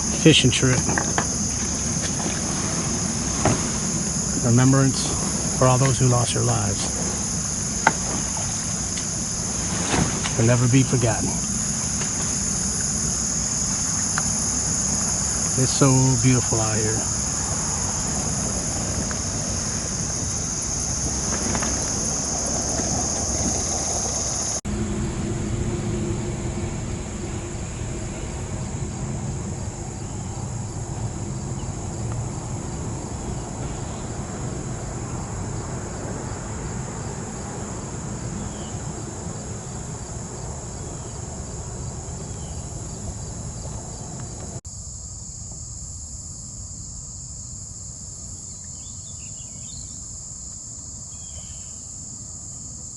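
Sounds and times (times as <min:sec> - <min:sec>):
low rushing noise: 0:00.0 - 0:44.6
high-pitched insect chorus: 0:00.0 - 0:52.9.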